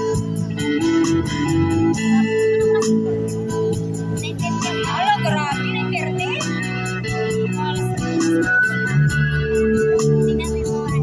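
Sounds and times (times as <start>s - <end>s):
organ-like keyboard chords: 0.0s - 10.9s.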